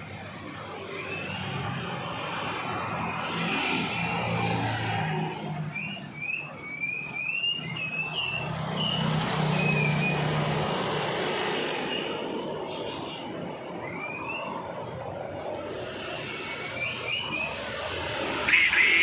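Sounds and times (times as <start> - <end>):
birds chirping: 0.4 - 3.4, 5.3 - 19.0.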